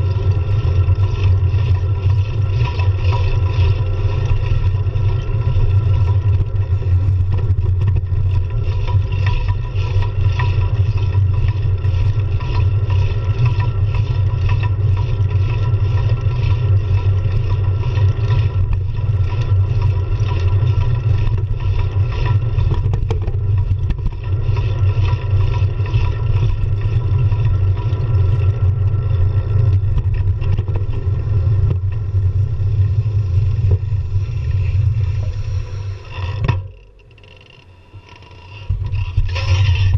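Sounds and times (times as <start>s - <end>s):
wind rumble on microphone: 0.0s - 36.7s, 38.7s - 39.9s
small rattles: 0.0s - 39.9s.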